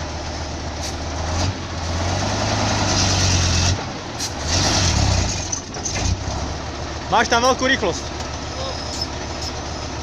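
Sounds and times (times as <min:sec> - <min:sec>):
heavy vehicle engine droning: 0:00.0 - 0:10.0.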